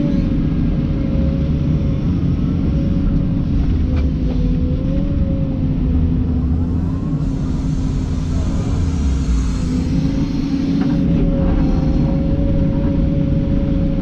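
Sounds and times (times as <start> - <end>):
excavator diesel engine running: 0.0 - 14.0
steady engine whine: 0.0 - 14.0.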